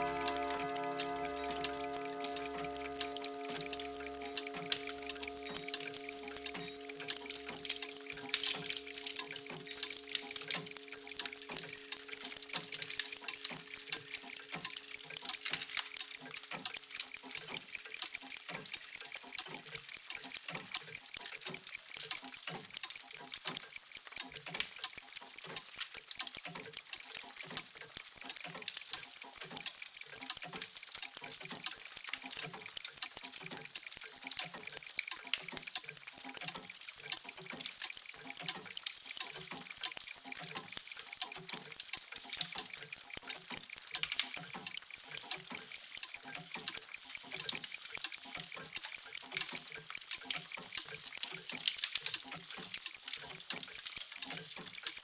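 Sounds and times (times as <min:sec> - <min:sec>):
mechanical clocks ticking: 0:00.0 - 0:55.0.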